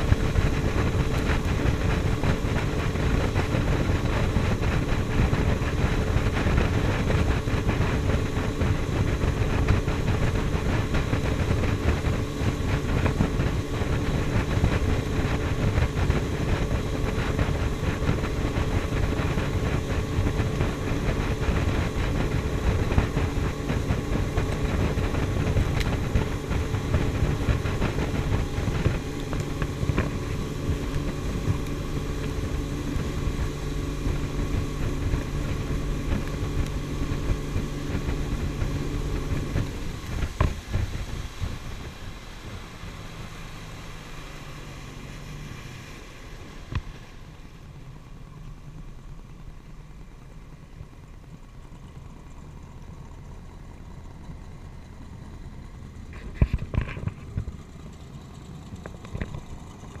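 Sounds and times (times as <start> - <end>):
rushing water: 0.0 - 53.8
speedboat engine running: 0.0 - 60.0
wind: 0.0 - 60.0.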